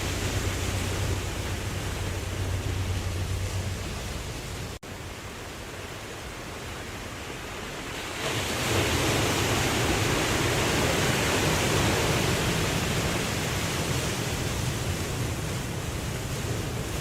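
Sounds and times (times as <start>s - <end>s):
ocean wave breaking: 0.0s - 4.8s, 5.7s - 17.0s.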